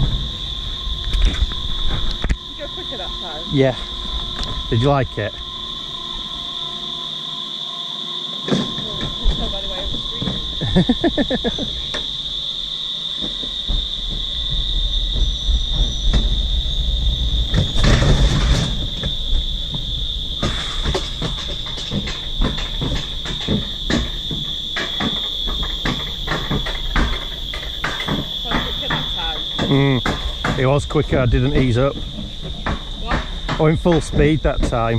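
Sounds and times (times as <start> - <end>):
coaster sled rumbling on rail: 0.0 - 5.4, 8.6 - 12.3, 13.0 - 34.9
insect drone: 0.0 - 34.9.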